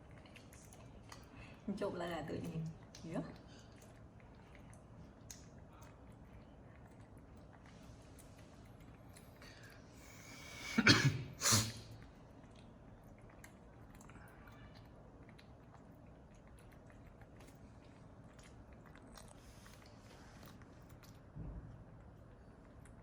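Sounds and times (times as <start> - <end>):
faint chewing clicks: 0.0 - 10.5, 11.8 - 23.0.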